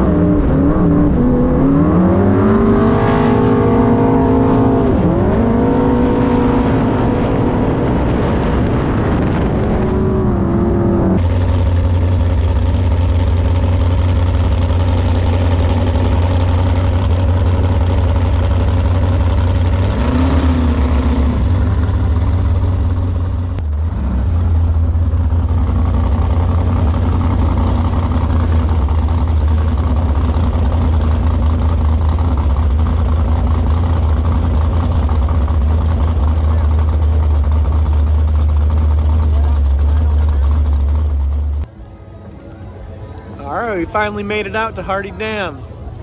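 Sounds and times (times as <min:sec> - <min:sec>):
boat engine running: 0:00.0 - 0:42.1, 0:43.1 - 0:46.0.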